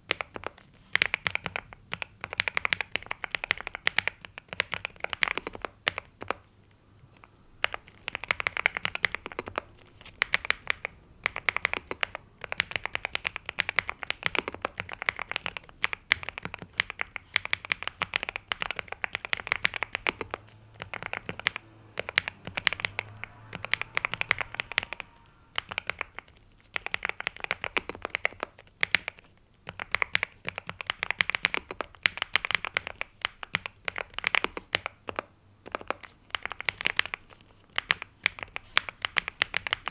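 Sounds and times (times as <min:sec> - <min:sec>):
mechanical keyboard typing: 0:00.0 - 0:06.5, 0:07.2 - 0:39.9.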